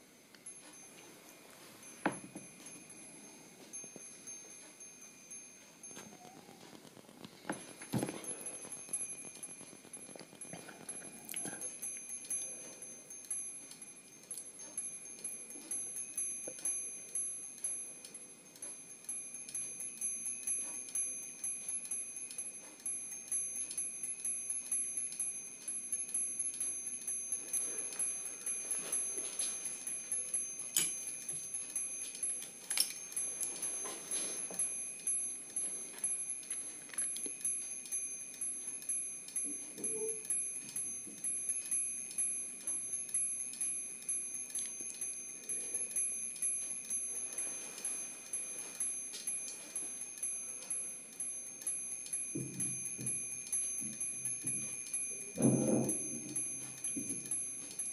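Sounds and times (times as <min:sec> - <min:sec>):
small bells tinkling: 0:00.0 - 0:57.9.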